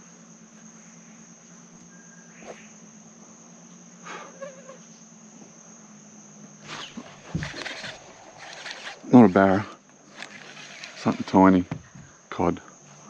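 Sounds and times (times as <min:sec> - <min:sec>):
high-pitched drone of insects: 0:00.0 - 0:13.0
steady low hum: 0:00.0 - 0:13.0.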